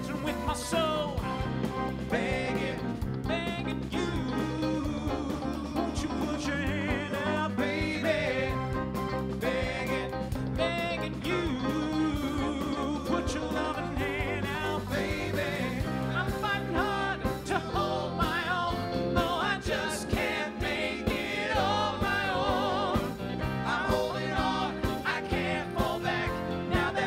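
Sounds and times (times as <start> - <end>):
band with electric guitar and drums: 0.0 - 27.0
vocal group singing in harmony: 0.0 - 27.0.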